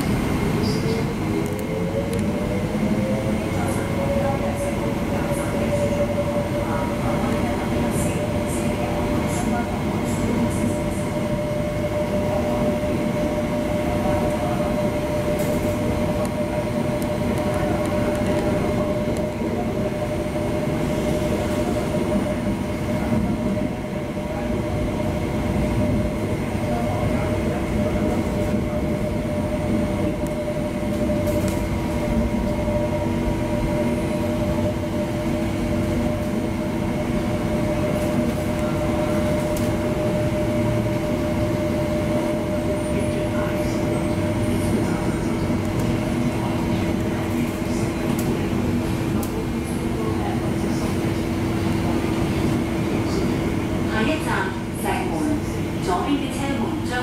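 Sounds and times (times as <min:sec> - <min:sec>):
steady multi-tone whine: 0:00.0 - 0:57.0
train interior rumble: 0:00.0 - 0:57.0.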